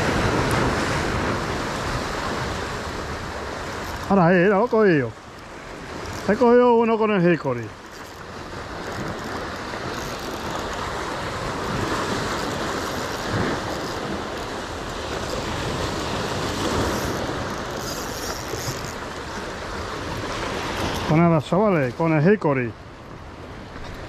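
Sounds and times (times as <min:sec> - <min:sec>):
waves breaking on rocks: 0:00.0 - 0:24.0.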